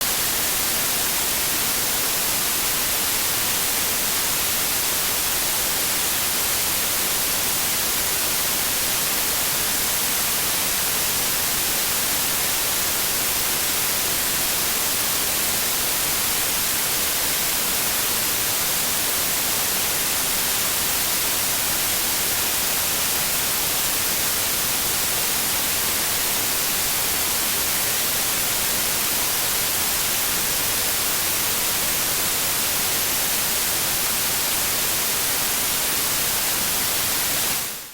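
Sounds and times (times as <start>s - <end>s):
steady white noise hiss: 0.0s - 37.9s.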